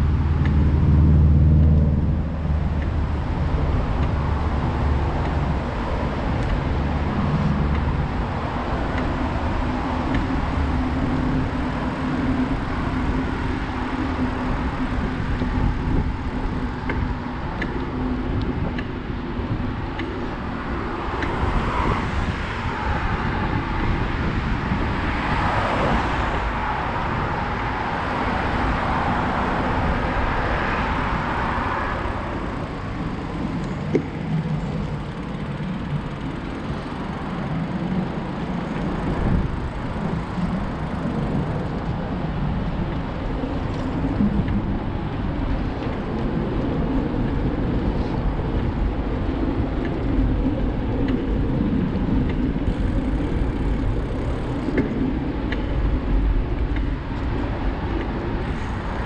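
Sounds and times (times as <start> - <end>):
bicycle rolling rumble: 0.0 - 59.0
road traffic noise: 0.0 - 59.0
wind buffeting microphone: 0.0 - 59.0.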